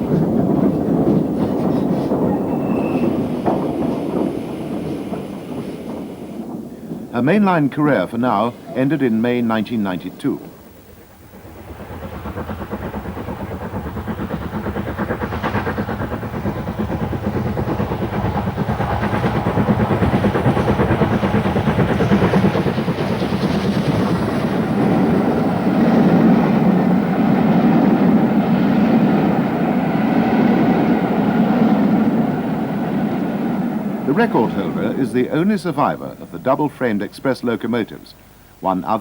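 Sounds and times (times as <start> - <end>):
rail noise: 0.0 - 39.0
steam locomotive exhaust beats: 0.0 - 39.0.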